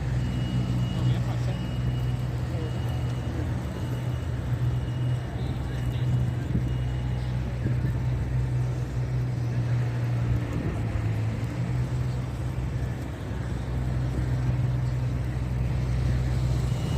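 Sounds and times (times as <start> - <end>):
traffic hum: 0.0 - 16.9.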